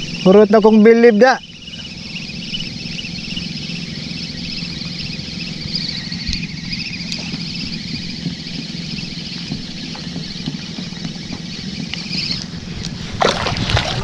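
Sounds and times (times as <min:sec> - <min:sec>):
boat engine pulsing drone: 0:00.0 - 0:14.0
high pulsing buzz: 0:00.0 - 0:14.0.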